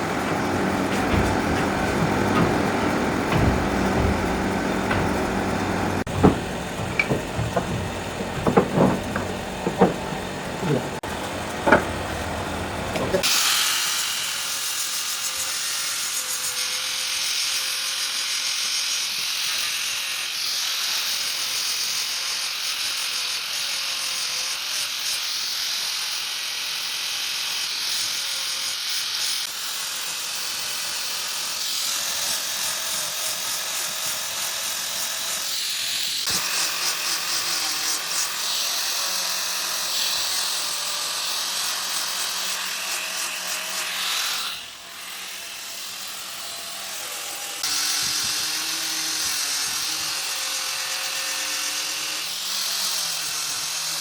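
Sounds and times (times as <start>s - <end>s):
power tool motor whirring: 0.0s - 54.0s.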